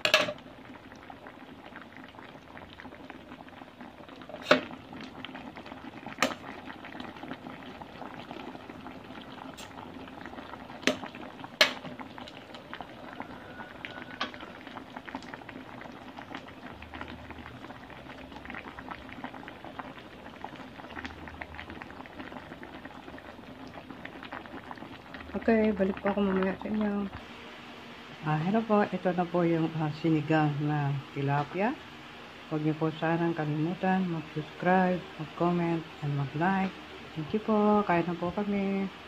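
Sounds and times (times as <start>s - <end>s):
soup bubbling in pot: 0.0s - 39.0s.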